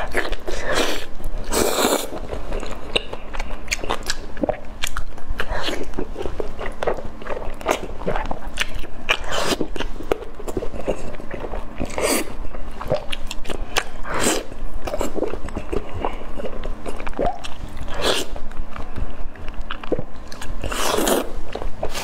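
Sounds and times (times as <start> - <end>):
chewing grilled fish: 0.0 - 22.0.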